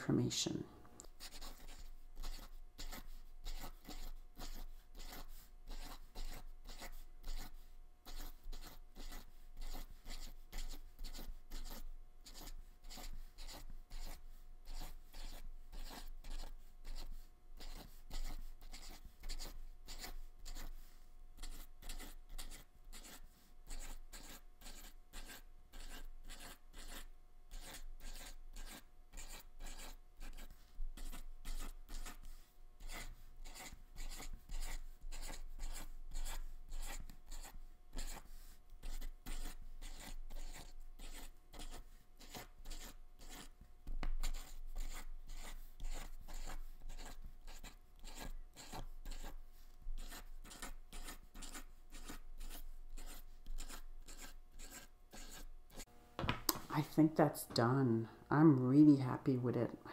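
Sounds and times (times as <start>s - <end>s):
marker scratching on paper: 1.0s - 55.9s.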